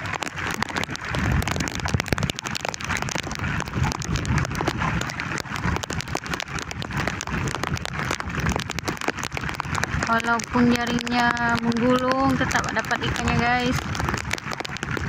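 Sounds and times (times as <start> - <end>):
heavy rain pattering: 0.0 - 15.0
strong wind rumbling: 0.0 - 15.0.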